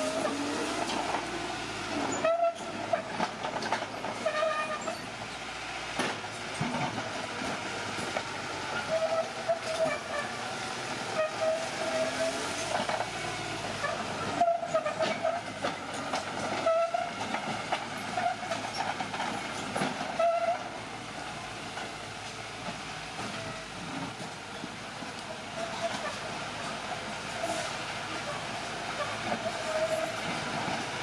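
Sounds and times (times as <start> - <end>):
bulldozer engine: 0.0 - 31.0
steel tracks squealing: 0.0 - 31.0
track clatter: 0.0 - 31.0.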